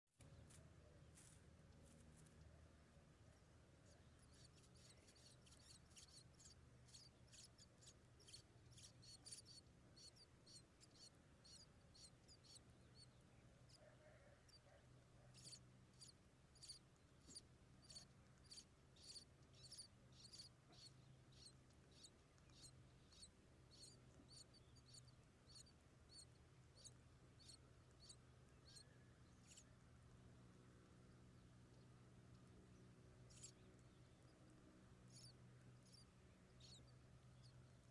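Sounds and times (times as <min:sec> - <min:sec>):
small birds chirping: 0:00.2 - 0:37.9.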